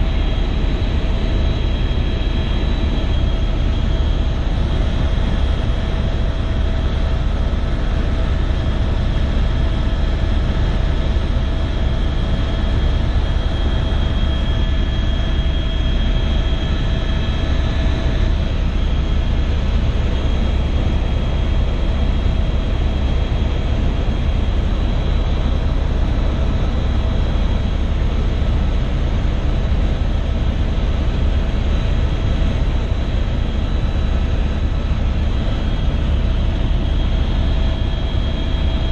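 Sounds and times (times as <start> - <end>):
helicopter rotor and engine noise: 0.0 - 38.9.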